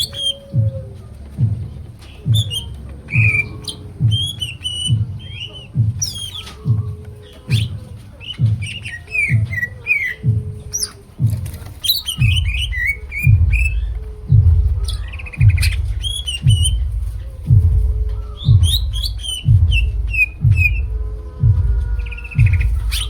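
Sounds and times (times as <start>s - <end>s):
bird singing chirps and whistles: 0.0s - 23.0s.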